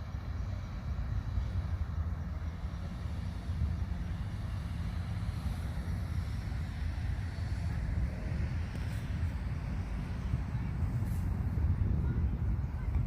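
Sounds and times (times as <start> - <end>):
steady low rumbling: 0.0 - 13.0.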